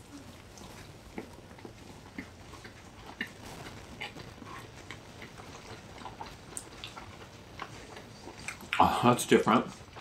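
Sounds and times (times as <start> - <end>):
people chewing food: 0.0 - 10.0.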